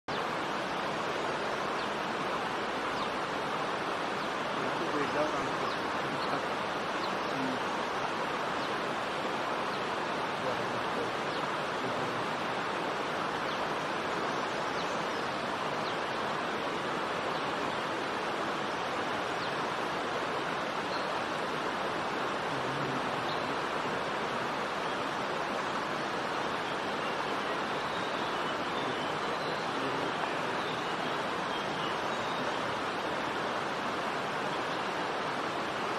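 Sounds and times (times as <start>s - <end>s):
flowing water rushing: 0.1s - 35.9s.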